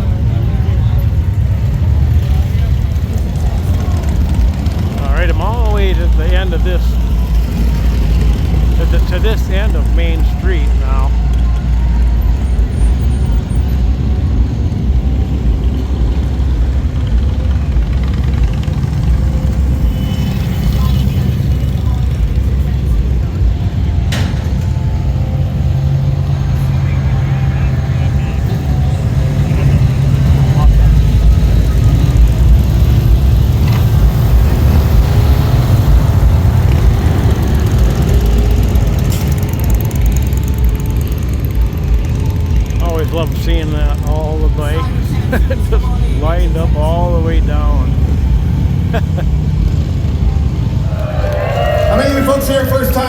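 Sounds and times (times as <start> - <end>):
motorcycle engines rumbling: 0.0 - 53.0.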